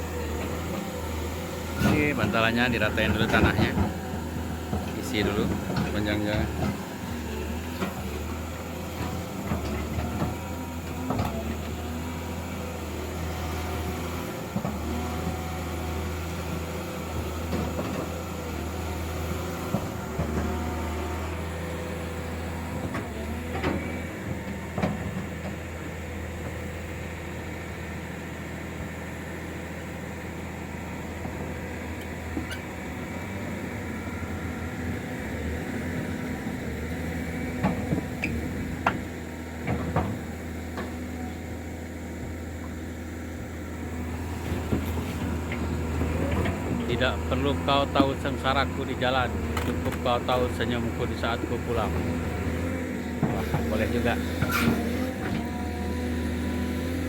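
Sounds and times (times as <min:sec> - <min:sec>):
diesel engine droning: 0:00.0 - 0:57.0
knocks and clanks on soil and timber: 0:00.4 - 0:12.3, 0:13.3 - 0:16.0, 0:16.6 - 0:26.8, 0:30.6 - 0:57.0.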